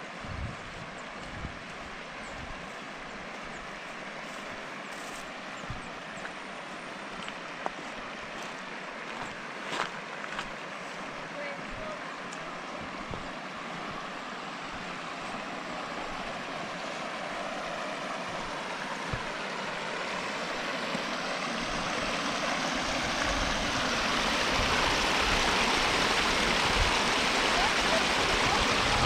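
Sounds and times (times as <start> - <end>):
river water over rocks: 0.0 - 29.0.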